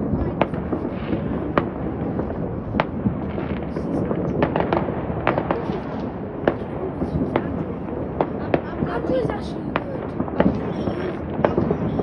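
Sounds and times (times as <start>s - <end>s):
distant fireworks rumble: 0.0s - 12.0s
fireworks cracking: 0.0s - 12.0s.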